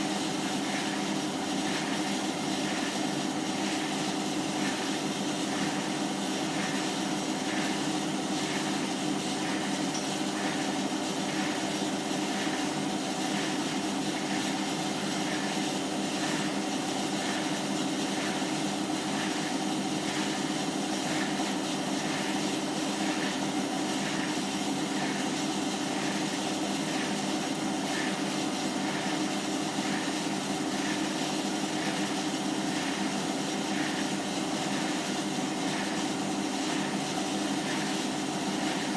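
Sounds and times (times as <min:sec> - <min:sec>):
washing machine drum humming: 0:00.0 - 0:38.9.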